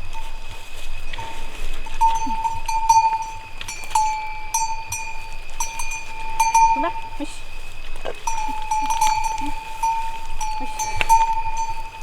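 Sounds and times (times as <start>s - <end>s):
metal bell ringing: 0.0s - 12.0s.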